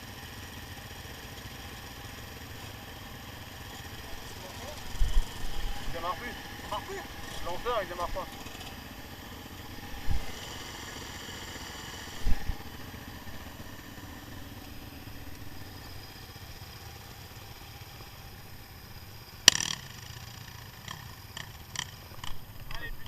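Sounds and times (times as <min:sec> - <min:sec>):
quad bike engines idling: 0:00.0 - 0:23.0.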